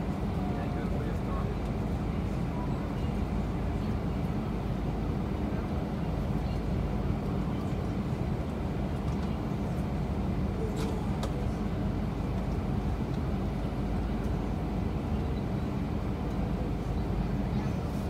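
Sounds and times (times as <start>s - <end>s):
jet engines idling rumble: 0.0s - 18.0s.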